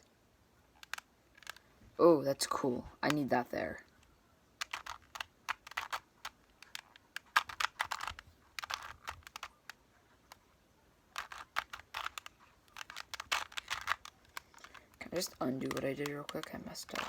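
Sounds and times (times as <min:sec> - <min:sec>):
plastic puzzle cube clicking twists: 0:00.0 - 0:17.0.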